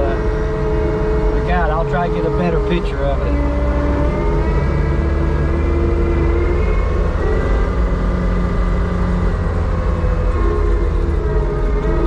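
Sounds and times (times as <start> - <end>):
heavy machinery engine rumble: 0.0 - 12.0
held drifting tones: 0.0 - 12.0.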